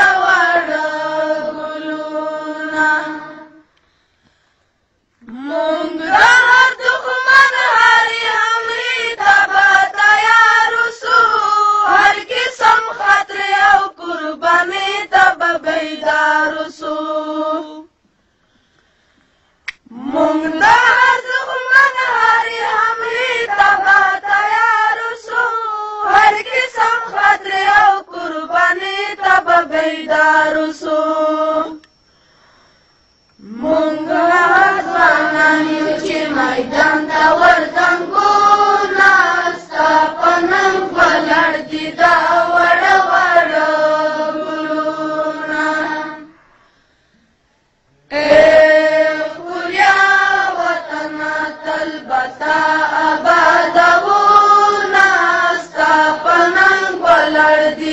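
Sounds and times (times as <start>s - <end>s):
high voice singing unaccompanied: 0.0s - 3.8s, 5.2s - 18.0s, 19.8s - 31.9s, 33.4s - 46.4s, 48.0s - 57.9s.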